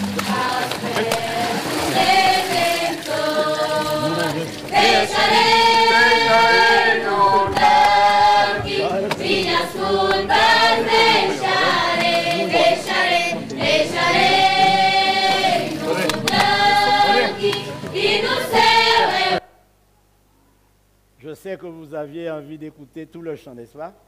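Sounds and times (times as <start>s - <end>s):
group singing a hymn: 0.0s - 19.5s.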